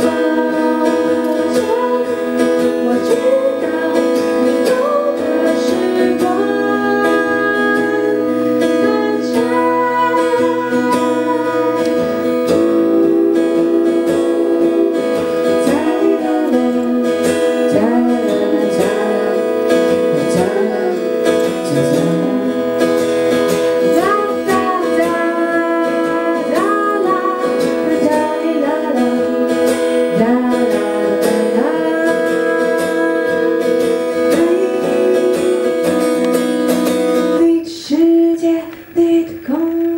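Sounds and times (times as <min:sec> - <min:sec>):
acoustic guitar strumming: 0:00.0 - 0:39.9
woman and man singing duet: 0:00.0 - 0:39.9.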